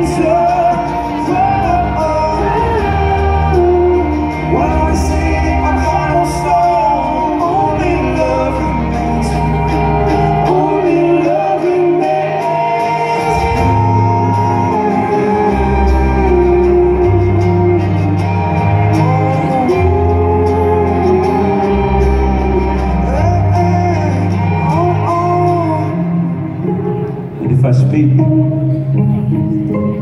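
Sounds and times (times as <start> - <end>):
man singing: 0.0 - 28.8
live pop band playing: 0.0 - 30.0
low bass notes: 0.0 - 30.0.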